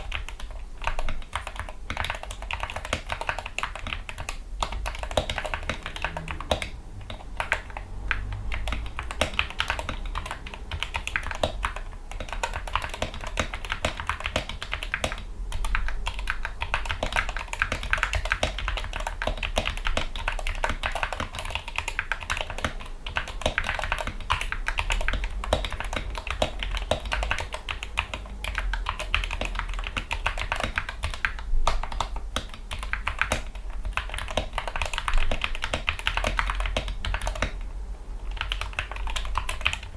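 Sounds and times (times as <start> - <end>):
mechanical keyboard typing: 0.0 - 37.7, 38.3 - 39.9.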